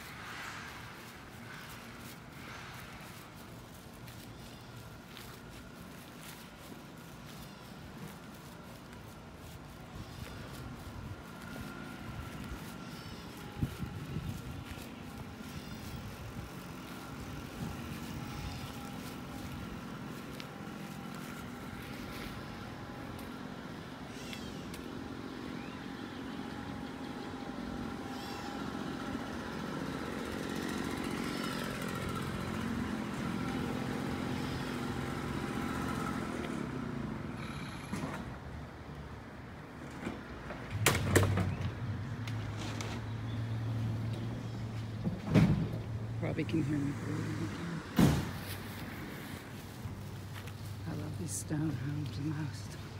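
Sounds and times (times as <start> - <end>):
low engine hum: 0.0 - 52.9
street and traffic noise: 0.0 - 52.9.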